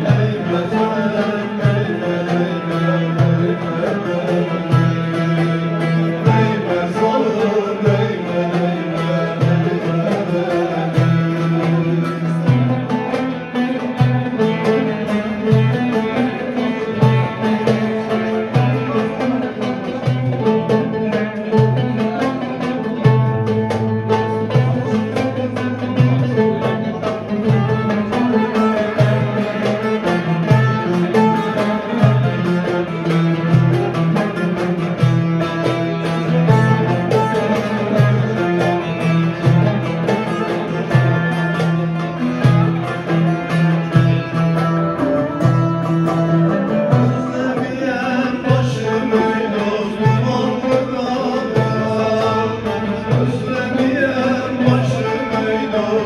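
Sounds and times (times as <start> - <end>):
plucked string folk music: 0.0 - 56.0.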